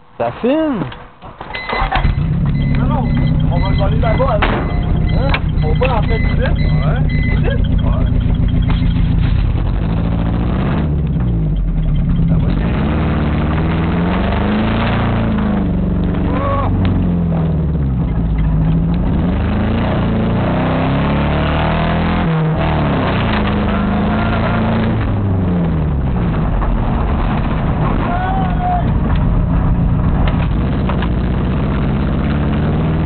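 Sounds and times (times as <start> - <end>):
engine running under load: 1.0 - 33.0.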